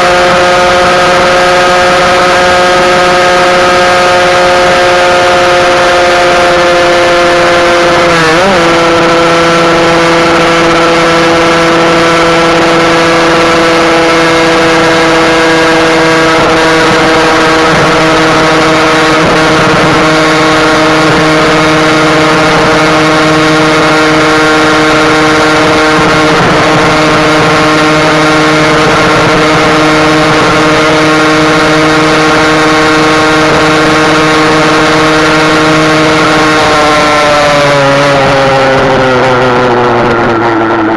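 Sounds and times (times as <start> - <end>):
two-stroke engine at high revs: 0.0 - 40.9.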